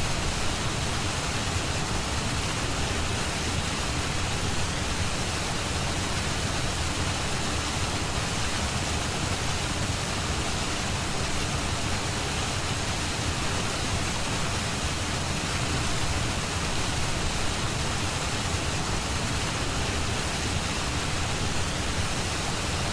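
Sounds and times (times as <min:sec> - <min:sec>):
steady pink noise hiss: 0:00.0 - 0:22.9.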